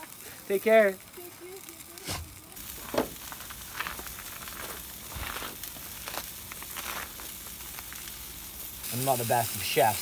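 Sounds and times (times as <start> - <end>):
fish sizzling in frying pan: 0.0 - 10.0
oil crackling and popping: 0.0 - 10.0.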